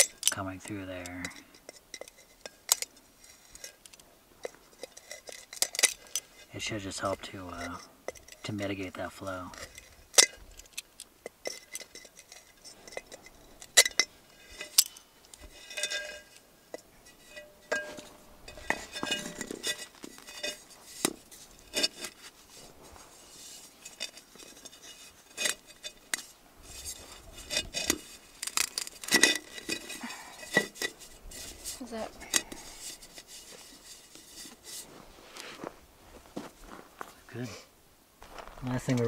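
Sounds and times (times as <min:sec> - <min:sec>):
ceramic pot clinking and cracking: 0:00.0 - 0:22.3, 0:23.8 - 0:33.2
pot scraping on gravelly soil: 0:04.5 - 0:37.1.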